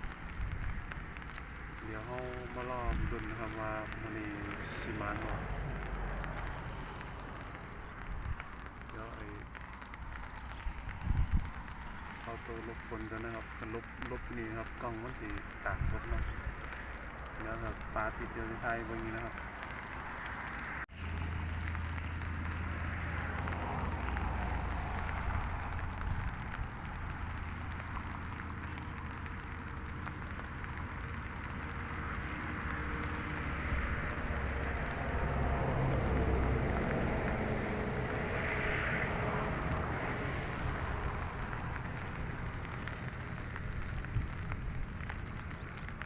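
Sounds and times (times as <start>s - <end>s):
light rain patter: 0.0s - 46.0s
low rumble: 0.0s - 46.0s.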